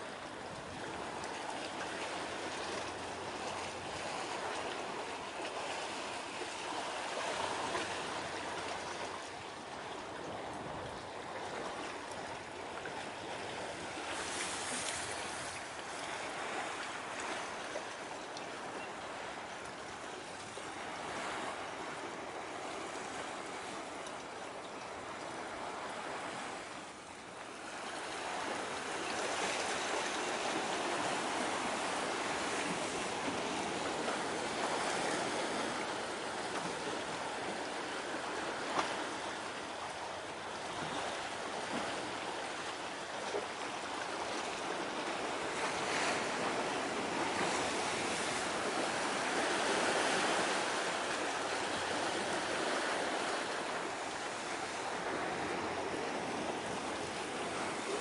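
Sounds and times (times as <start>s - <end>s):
sea waves washing in: 0.0s - 58.0s.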